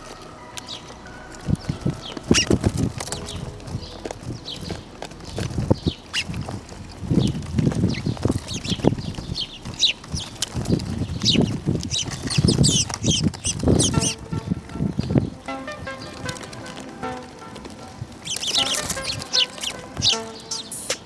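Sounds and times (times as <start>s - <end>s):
flock of birds chirping: 0.0s - 21.0s
wings fluttering: 0.0s - 21.0s.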